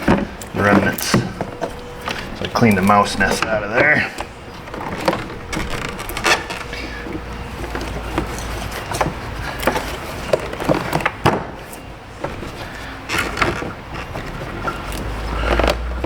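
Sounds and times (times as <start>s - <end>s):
steady low background hum: 0.0s - 16.0s.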